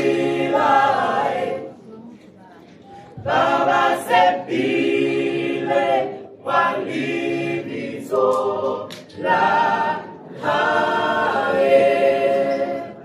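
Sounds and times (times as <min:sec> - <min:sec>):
choir singing in harmony: 0:00.0 - 0:01.9, 0:03.1 - 0:13.0.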